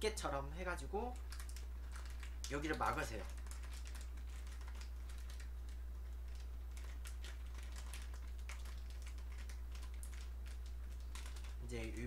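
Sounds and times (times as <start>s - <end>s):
steady low hum: 0.0s - 12.0s
plastic bag crinkling: 1.2s - 11.8s.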